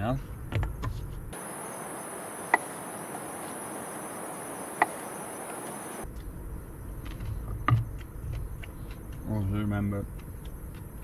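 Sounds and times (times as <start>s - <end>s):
crickets trilling: 1.4s - 11.0s.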